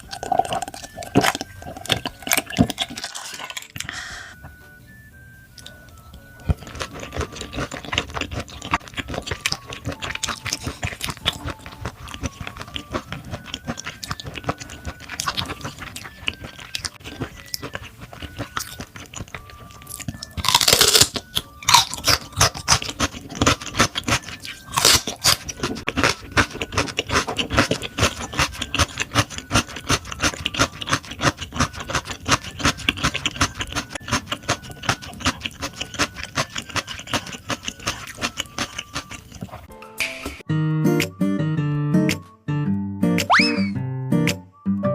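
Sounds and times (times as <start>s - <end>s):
chewing with mouth clicks: 0.0s - 4.2s, 5.6s - 39.7s
food crunching: 0.0s - 4.3s, 5.5s - 39.7s
soft background music: 0.0s - 44.9s.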